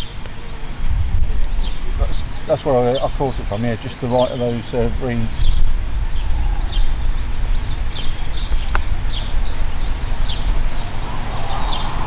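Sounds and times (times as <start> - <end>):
high falling chirps: 0.0 - 12.0.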